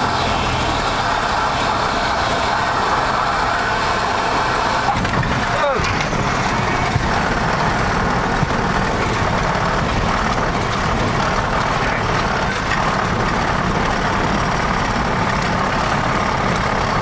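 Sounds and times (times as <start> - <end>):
airplane propeller engine running: 0.0 - 17.0.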